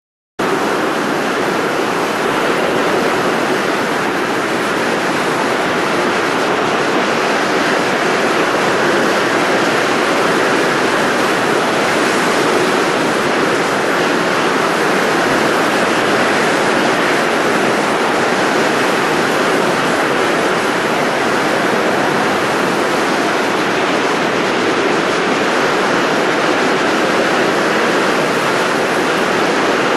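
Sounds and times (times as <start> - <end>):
rushing of blown air: 0.4 - 29.9.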